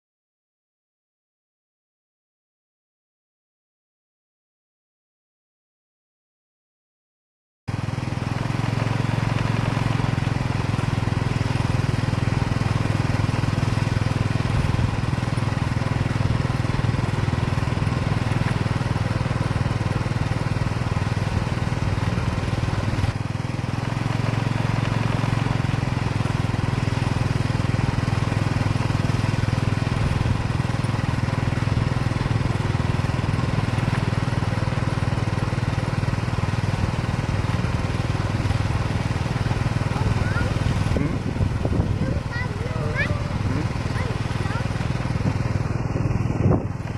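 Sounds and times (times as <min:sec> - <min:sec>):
heavy machinery engine drone: 0:07.7 - 0:46.9.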